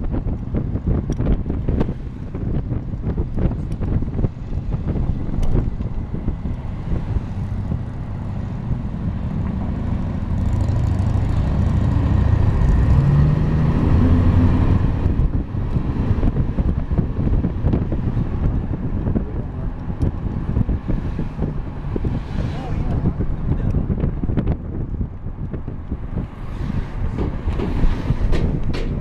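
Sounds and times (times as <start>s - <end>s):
wind gusting on microphone: 0.0s - 29.0s
vehicle engine rumble passing: 0.1s - 29.0s.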